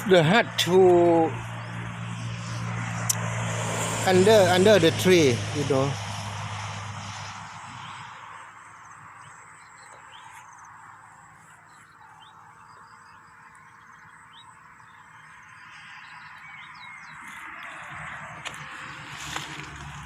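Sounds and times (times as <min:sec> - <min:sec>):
low vehicle rumble: 0:00.0 - 0:14.4, 0:15.0 - 0:20.0.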